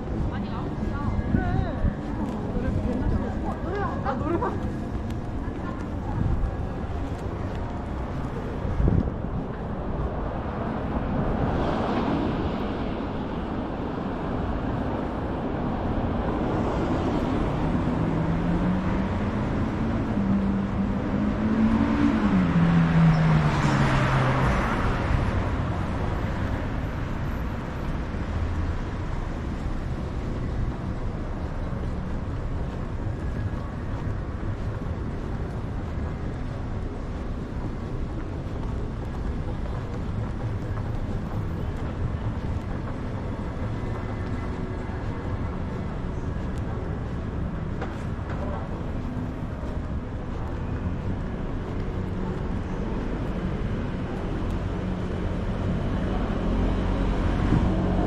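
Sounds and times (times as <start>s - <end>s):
steady traffic noise: 0.0s - 58.0s.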